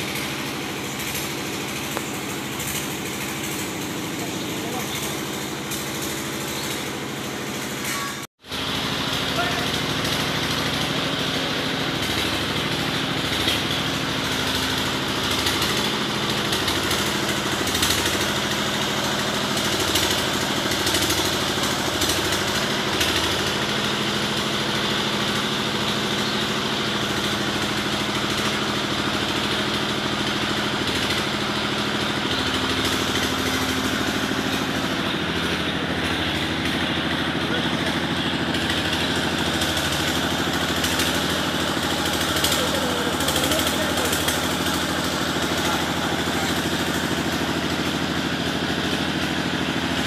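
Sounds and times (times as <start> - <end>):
small engine idling: 0.0 - 50.0.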